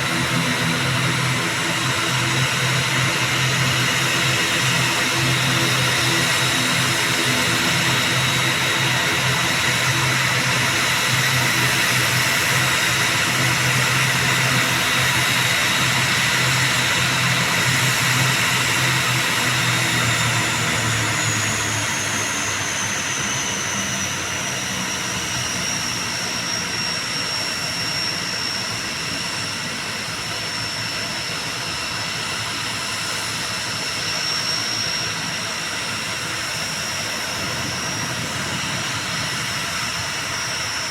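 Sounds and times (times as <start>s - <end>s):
turboprop engines humming and whining: 0.0s - 40.9s.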